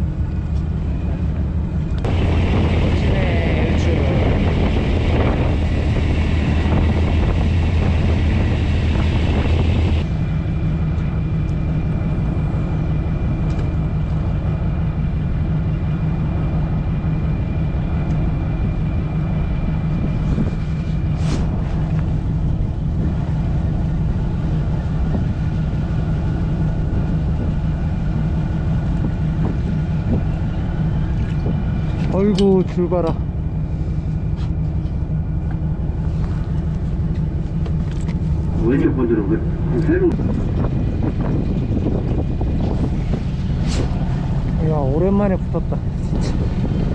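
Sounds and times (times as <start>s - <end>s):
boat engine humming: 0.0s - 46.9s
wind and water rushing: 1.6s - 33.7s, 37.0s - 46.9s.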